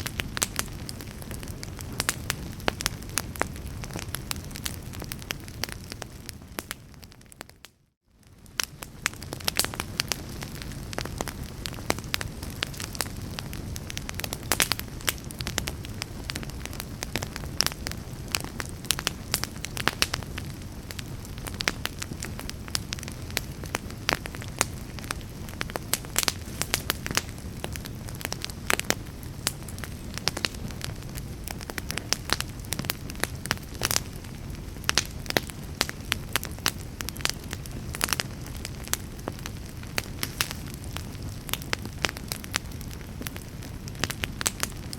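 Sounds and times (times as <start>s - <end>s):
fire crackling and popping: 0.0s - 44.9s
fire rumbling in fireplace: 0.0s - 44.9s.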